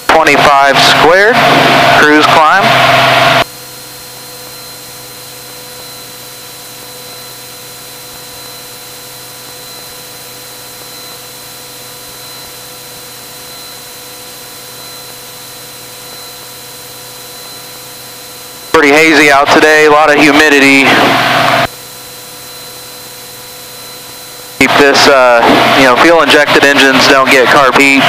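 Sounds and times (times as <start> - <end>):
airplane cabin engine hum: 0.0 - 19.6, 20.9 - 26.1.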